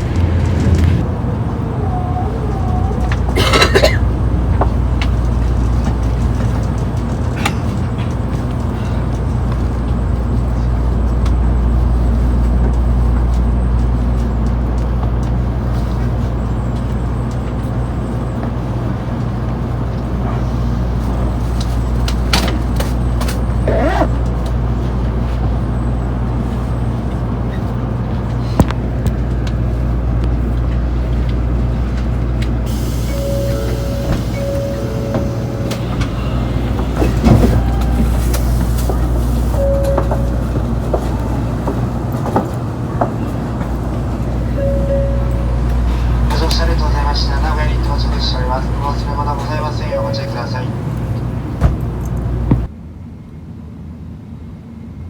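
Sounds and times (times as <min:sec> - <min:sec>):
train carriage interior rumble: 0:00.0 - 0:55.0.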